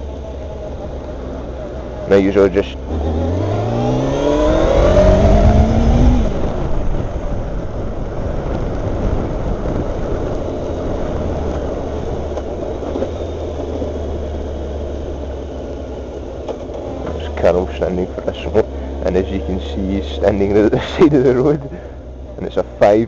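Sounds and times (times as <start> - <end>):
motorcycle engine revving: 0.0 - 22.3
wind and road noise: 0.0 - 23.0.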